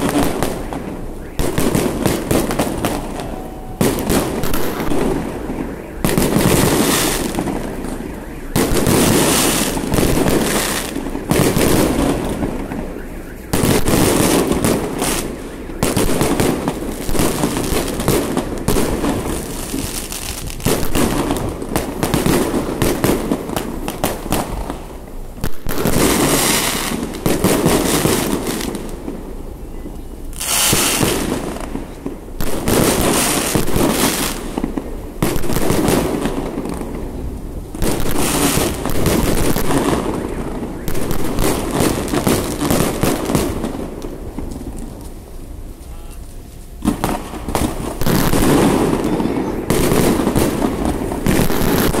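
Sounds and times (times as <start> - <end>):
fireworks crackling bangs: 0.0 - 52.0.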